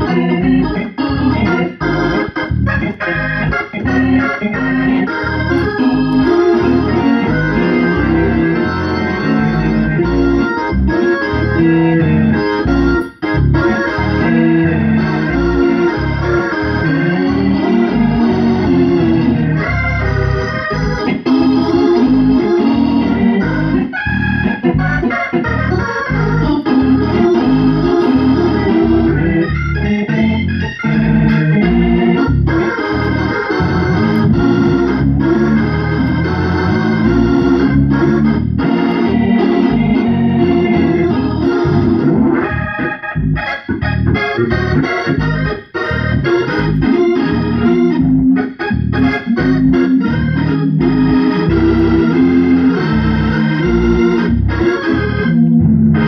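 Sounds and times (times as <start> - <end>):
organ chords through rotating speaker: 0.0 - 56.0.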